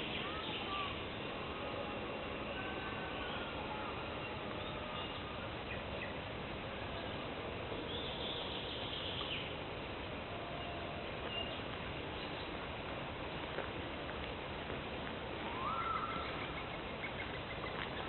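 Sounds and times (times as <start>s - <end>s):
forest birds singing: 0.0s - 12.8s, 15.4s - 18.0s
steady background hiss: 0.0s - 18.0s.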